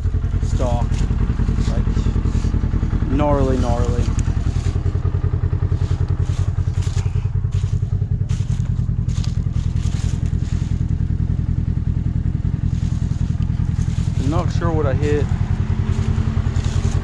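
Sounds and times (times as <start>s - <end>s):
engine idling with pulsing beat: 0.0s - 17.0s.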